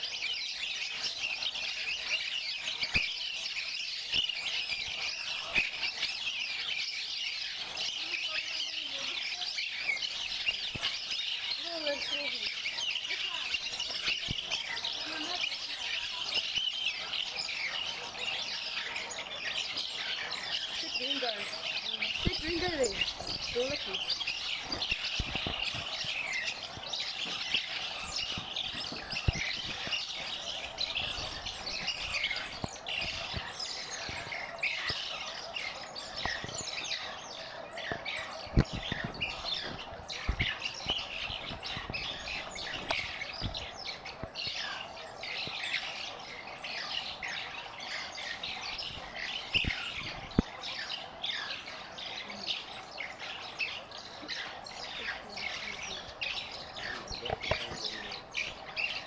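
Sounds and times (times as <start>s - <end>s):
mongooses twittering chirps: 0.0s - 59.0s.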